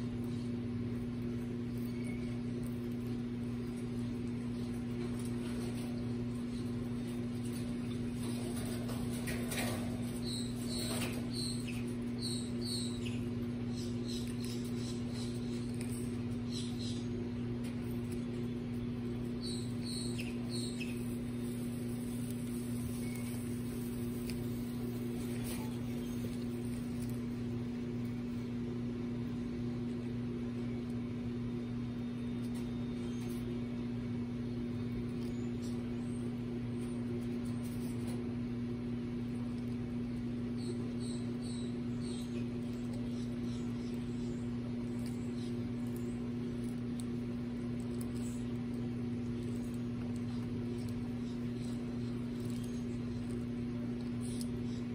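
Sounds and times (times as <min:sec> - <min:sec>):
steady machine hum: 0:00.0 - 0:54.9.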